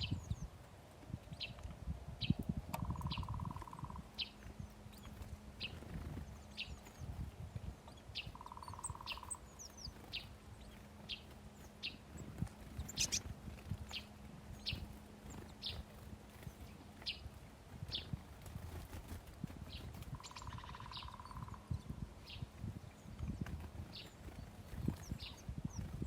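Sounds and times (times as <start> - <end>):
small songbirds chirping: 0.0 - 26.0.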